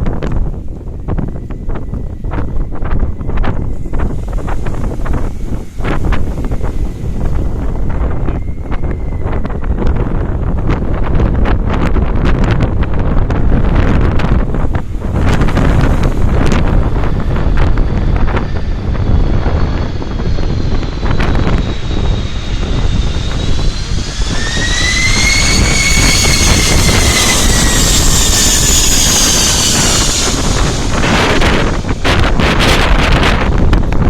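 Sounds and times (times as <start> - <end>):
jet engine whine: 0.0 - 34.0
wind buffeting microphone: 0.0 - 34.0.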